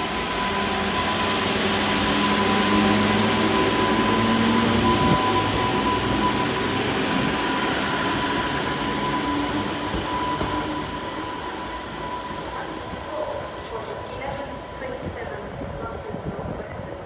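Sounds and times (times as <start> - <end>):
train electric whine: 0.0 - 15.6
train wheels rumbling on track: 0.0 - 17.0.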